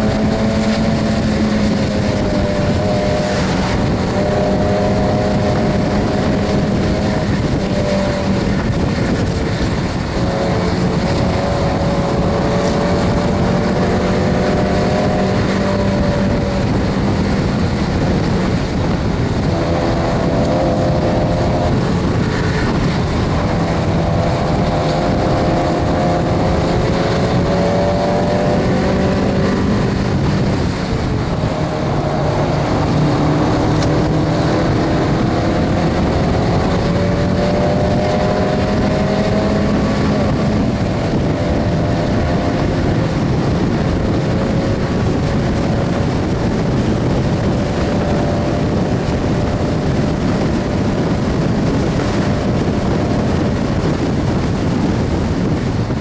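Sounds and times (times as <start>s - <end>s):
car engine revving under load: 0.0s - 56.0s
wind and road noise: 0.0s - 56.0s.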